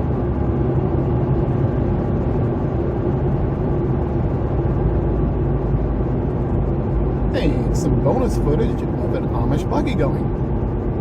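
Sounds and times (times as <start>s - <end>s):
car engine and tyre hum: 0.0s - 11.0s.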